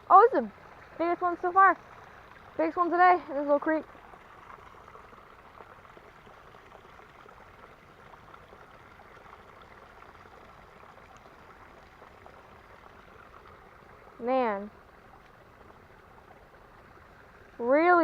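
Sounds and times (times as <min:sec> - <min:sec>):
faint creek water running: 0:00.0 - 0:18.0.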